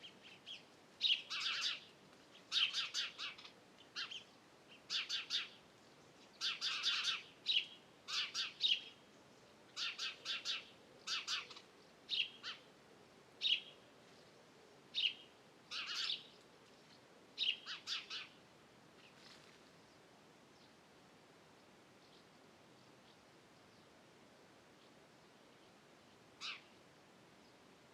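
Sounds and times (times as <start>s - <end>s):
songbird chirping: 0.0s - 27.9s.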